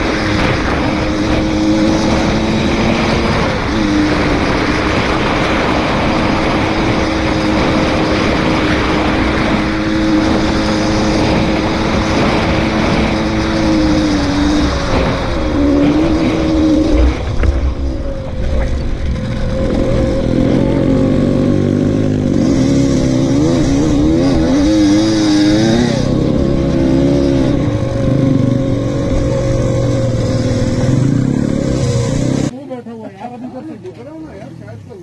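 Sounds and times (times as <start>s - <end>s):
dirt bike engine high revs: 0.0s - 32.5s
wind rumble on microphone: 0.0s - 32.5s.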